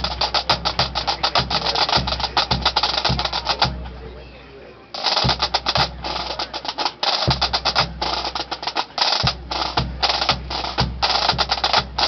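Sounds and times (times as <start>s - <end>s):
bass drum beating: 0.0s - 4.0s, 5.2s - 12.0s
snare drums rolling: 0.0s - 4.0s, 5.0s - 12.0s.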